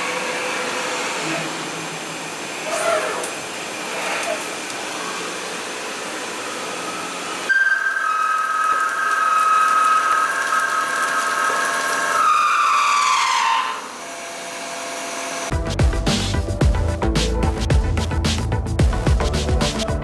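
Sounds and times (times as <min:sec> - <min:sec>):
machine noise: 0:00.0 - 0:20.0.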